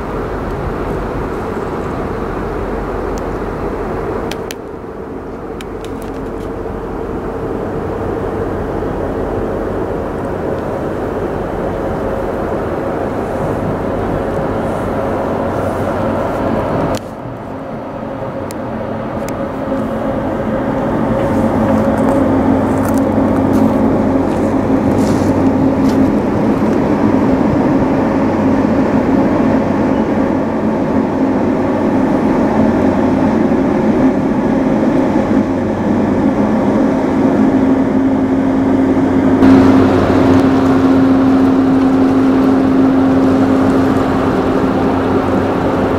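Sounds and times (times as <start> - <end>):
propeller wash churning: 0.0 - 45.9
ship engines droning: 0.0 - 45.9.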